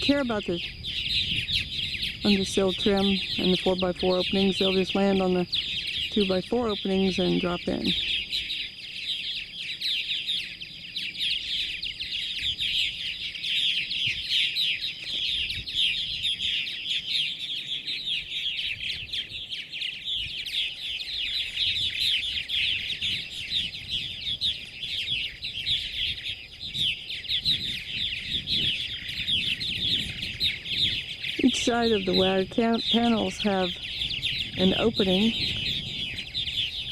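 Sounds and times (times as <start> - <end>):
birds chattering: 0.0 - 36.9.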